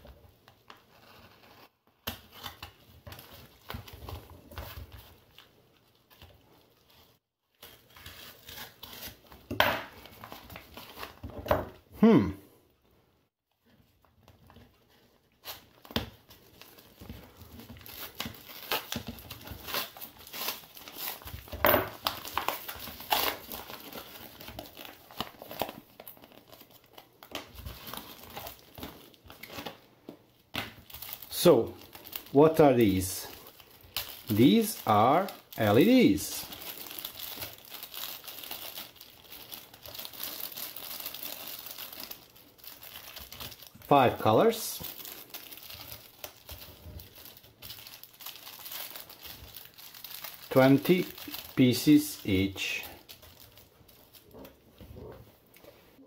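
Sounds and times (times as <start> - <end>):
padded envelope crinkling and tearing: 0.5 - 11.3, 14.5 - 29.9, 30.8 - 54.7.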